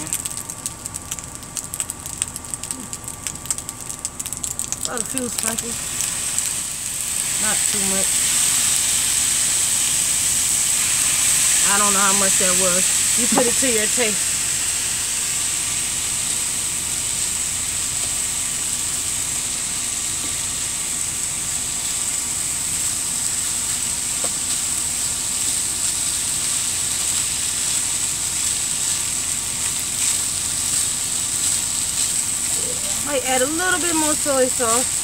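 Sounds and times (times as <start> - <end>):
rice sizzling in skillet: 0.0 - 35.0.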